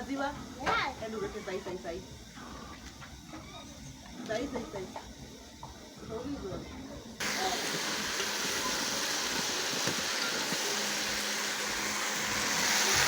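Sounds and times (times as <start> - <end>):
steady hissing noise: 0.0 - 13.0.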